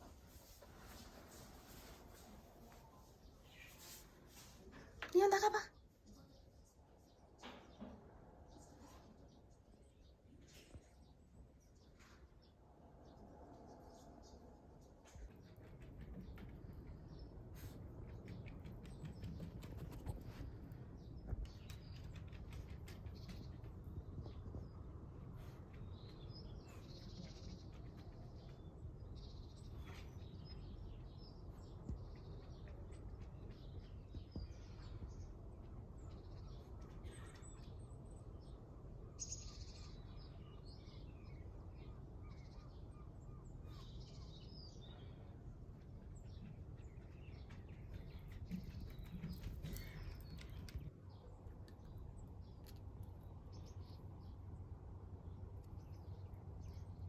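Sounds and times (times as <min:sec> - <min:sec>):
birds chirping: 0:05.2 - 0:57.0.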